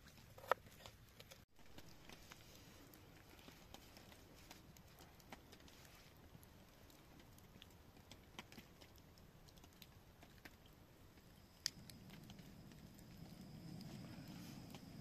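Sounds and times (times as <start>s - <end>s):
faint scattered clicks: 0.1s - 15.0s.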